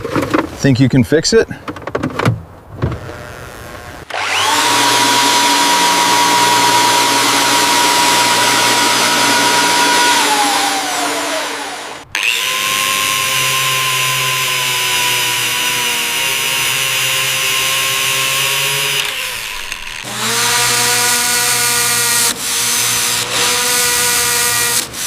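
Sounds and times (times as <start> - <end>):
power tool whining and grinding: 3.0 - 25.0.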